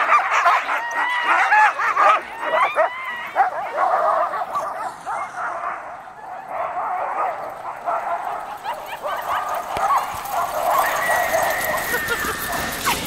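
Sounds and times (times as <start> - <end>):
dogs yelping barking and howling: 0.0 - 13.0.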